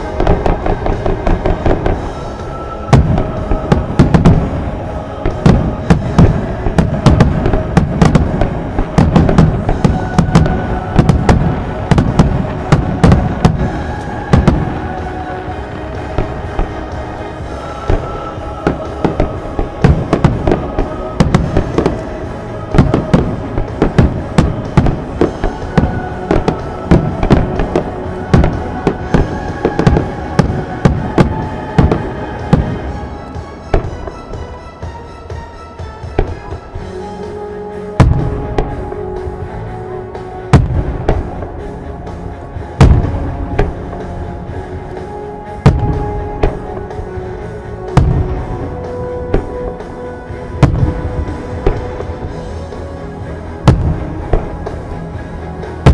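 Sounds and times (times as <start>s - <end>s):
fireworks bursting: 0.0s - 55.9s
music with sustained notes: 0.0s - 55.9s.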